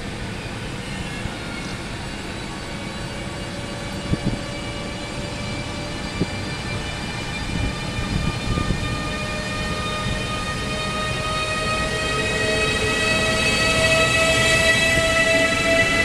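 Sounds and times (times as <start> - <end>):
electric locomotive whine: 0.0 - 16.0
low train rumble: 0.0 - 16.0.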